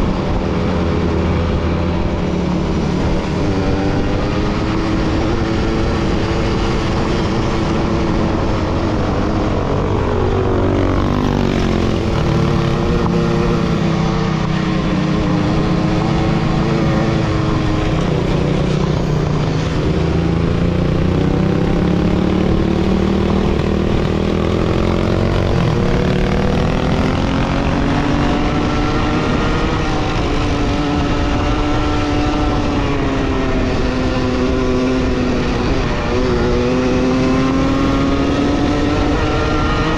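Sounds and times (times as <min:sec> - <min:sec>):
vehicle engine running: 0:00.0 - 0:38.6.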